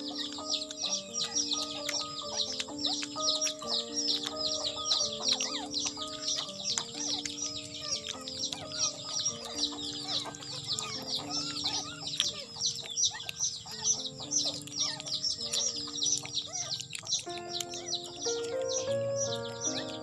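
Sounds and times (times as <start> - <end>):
music with slow held notes: 0.0 - 20.0
rapid bird chirping: 0.0 - 20.0.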